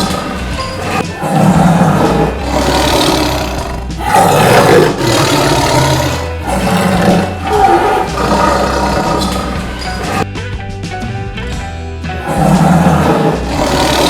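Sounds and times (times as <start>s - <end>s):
tiger roaring: 0.0s - 10.3s, 12.2s - 14.0s.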